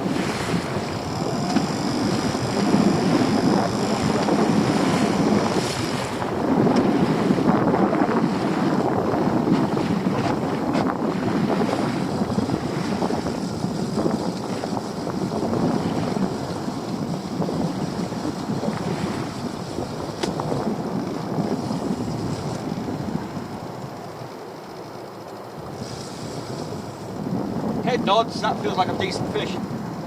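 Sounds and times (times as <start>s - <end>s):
sea water washing around boat: 0.0s - 30.0s
wind buffeting microphone: 0.0s - 30.0s.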